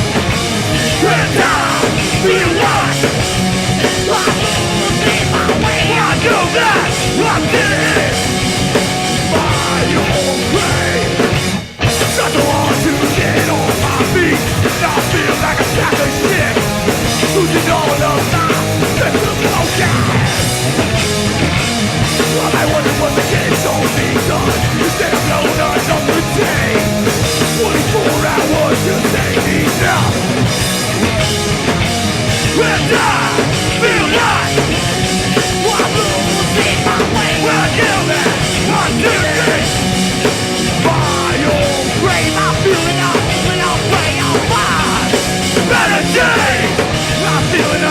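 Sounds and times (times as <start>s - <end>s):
punk band playing live: 0.0s - 47.9s.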